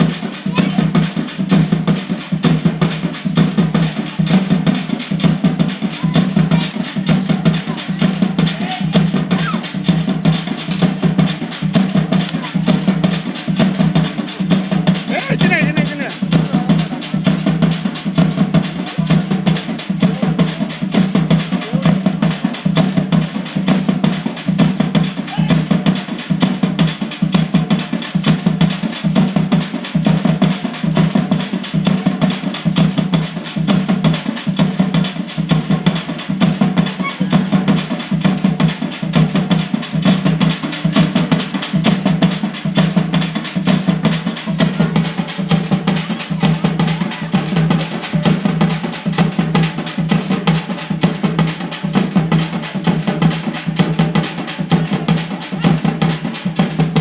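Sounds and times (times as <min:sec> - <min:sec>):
loud drums in fast rhythm: 0:00.0 - 0:57.0.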